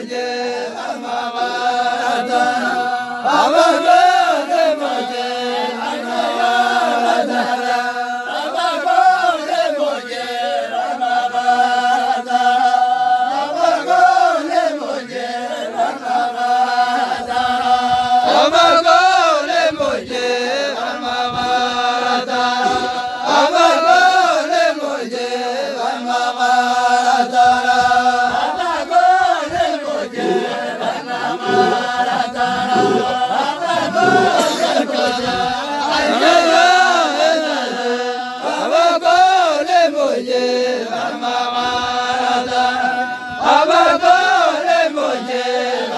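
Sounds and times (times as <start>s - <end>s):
group chanting: 0.0s - 45.9s.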